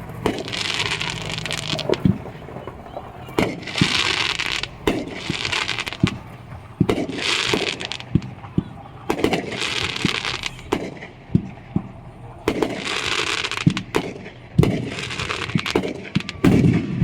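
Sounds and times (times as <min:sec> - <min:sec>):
firecrackers crackling: 0:00.0 - 0:17.0
fireworks bangs: 0:00.0 - 0:17.0.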